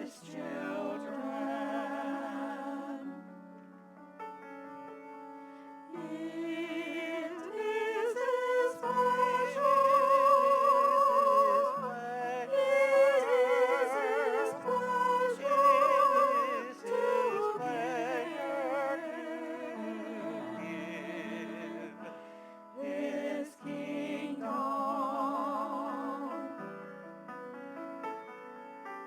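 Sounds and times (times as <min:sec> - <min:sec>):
person singing with vibrato: 0:00.0 - 0:03.2, 0:05.9 - 0:26.6
piano chords: 0:00.0 - 0:29.0.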